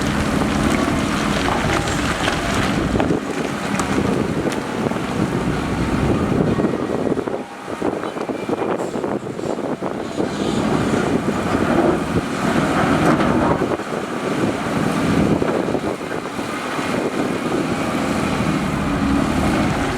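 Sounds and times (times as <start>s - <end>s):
heavy machinery diesel engines: 0.0s - 19.9s.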